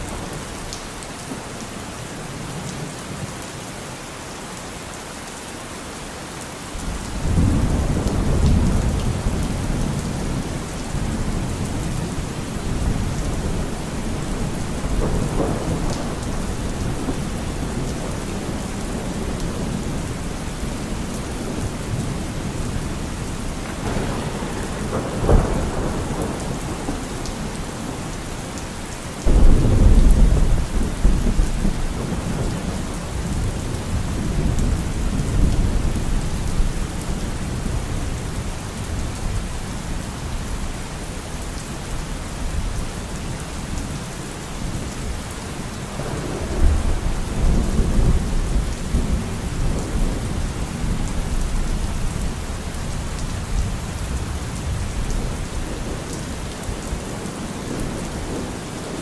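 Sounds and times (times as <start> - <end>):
steady rainfall: 0.0 - 59.0
rolling thunder: 6.8 - 40.8, 44.6 - 58.6.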